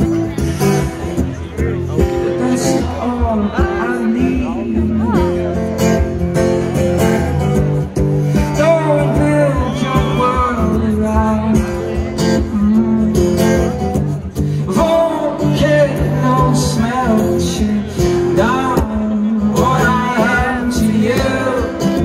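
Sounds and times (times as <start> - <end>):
acoustic guitar: 0.0 - 22.0
man singing: 1.6 - 6.2, 8.3 - 22.0.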